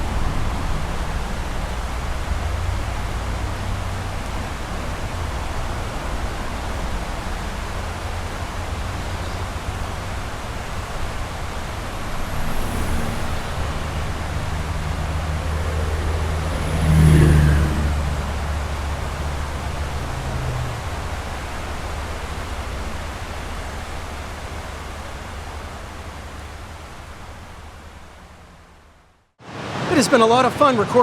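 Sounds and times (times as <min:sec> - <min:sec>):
low vehicle rumble: 0:00.0 - 0:29.4
creek rushing: 0:00.0 - 0:31.0
trucks crossing bridge deck: 0:00.0 - 0:31.0.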